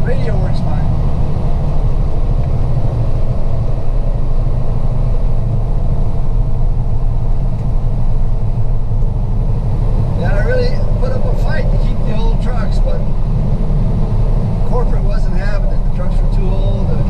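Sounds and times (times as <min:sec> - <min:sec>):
road noise: 0:00.0 - 0:17.0
truck engine rumble: 0:00.0 - 0:17.0.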